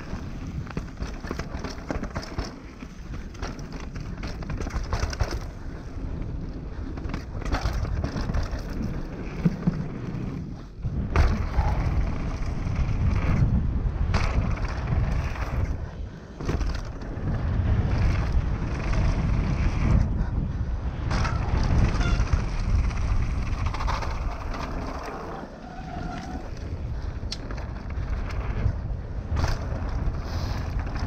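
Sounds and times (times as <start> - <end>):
tyres on dirt: 0.0 - 20.0, 21.0 - 31.0
bike rattling: 0.0 - 31.0
wind on microphone: 0.0 - 31.0.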